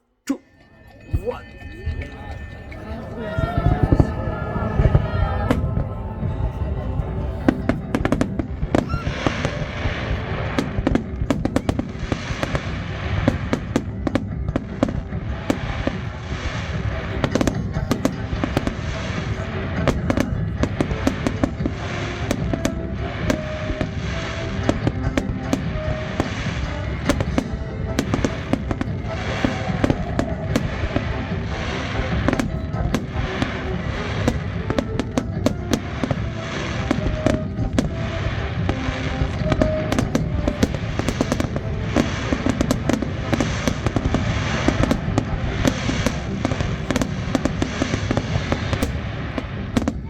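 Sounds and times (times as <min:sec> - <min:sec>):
music playing: 0:00.2 - 0:50.0
fireworks bangs and crackles: 0:01.0 - 0:50.0.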